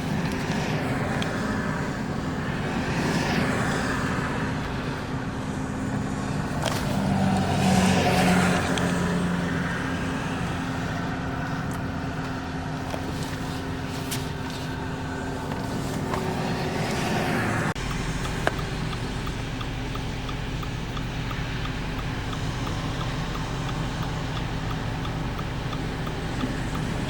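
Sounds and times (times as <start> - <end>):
steady engine hum: 0.0 - 27.0
vehicles passing by: 0.0 - 27.0.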